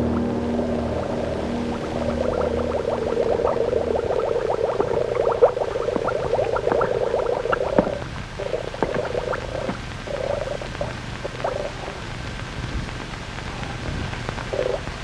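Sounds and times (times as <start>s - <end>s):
underwater bubbling and gurgling: 0.0s - 12.3s, 14.4s - 15.0s.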